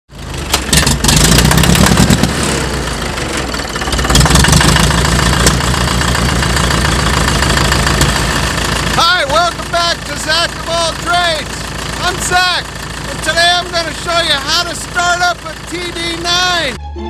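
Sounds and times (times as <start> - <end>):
diesel engine running loud: 0.1 - 16.8.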